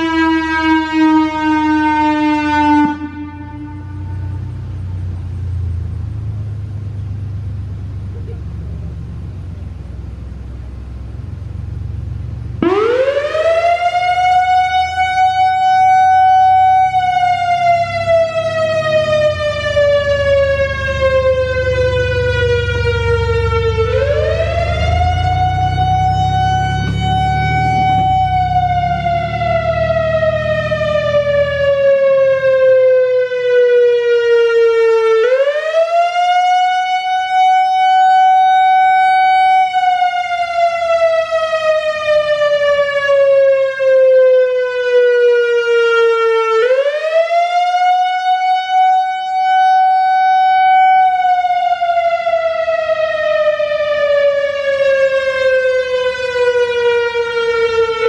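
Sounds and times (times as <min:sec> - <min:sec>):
warning siren wailing: 0:00.0 - 0:58.0.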